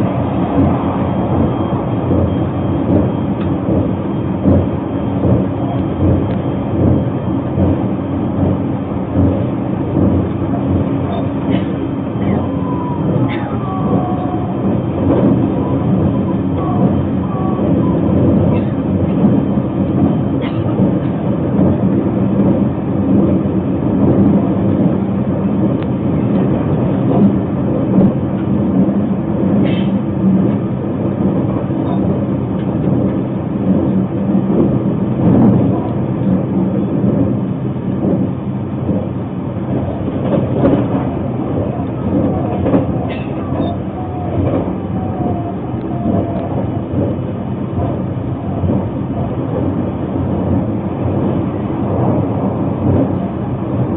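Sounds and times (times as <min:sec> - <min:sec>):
faint whine: 0:00.0 - 0:53.9
low motor hum: 0:00.0 - 0:53.9
wheels rumbling on rails: 0:00.0 - 0:53.9.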